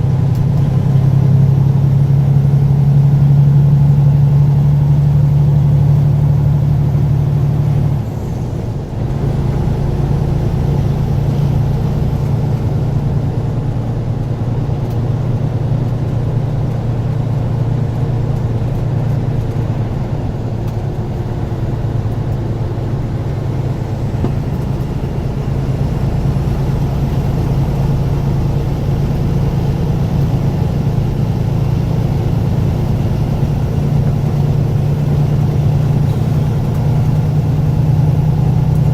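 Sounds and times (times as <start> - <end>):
road rumble: 0.0 - 38.9
truck engine droning: 0.0 - 38.9.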